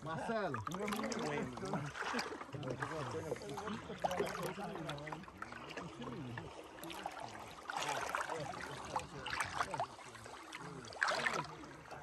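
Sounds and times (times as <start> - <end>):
river water splashing against a boat: 0.0 - 12.0.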